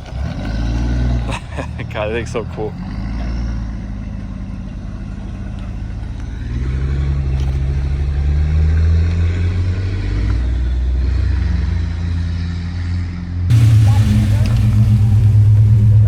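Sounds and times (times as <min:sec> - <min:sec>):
car engine running: 0:00.0 - 0:12.8, 0:13.5 - 0:16.0.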